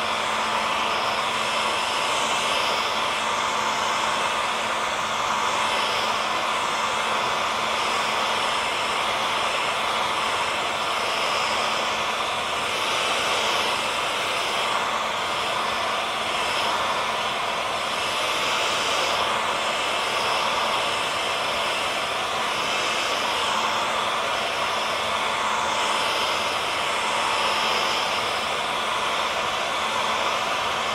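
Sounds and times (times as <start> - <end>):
hair dryer running: 0.0 - 30.9.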